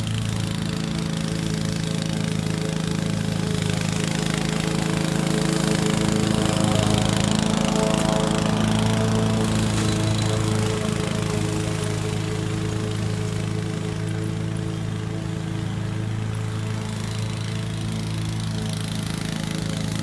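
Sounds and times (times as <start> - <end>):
lawn mower engine cutting grass: 0.0 - 20.0.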